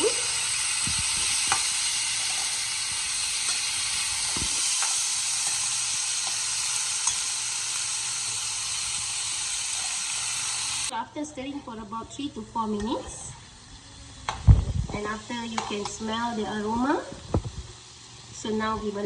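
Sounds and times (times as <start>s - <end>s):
beans sizzling in hot oil: 0.0s - 19.0s.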